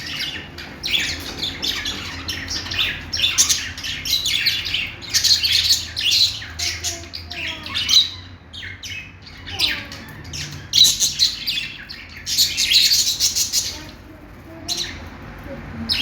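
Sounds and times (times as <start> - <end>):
budgerigars chirping and squawking: 0.0 - 16.0.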